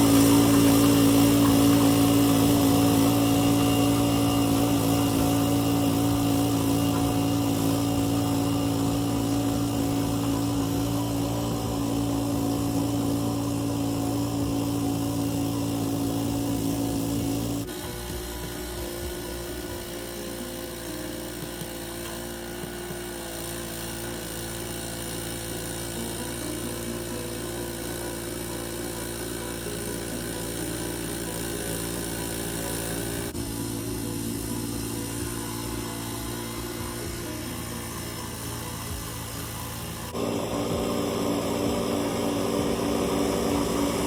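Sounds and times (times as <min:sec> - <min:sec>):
machine hum with fixed tones: 0:00.0 - 0:44.0.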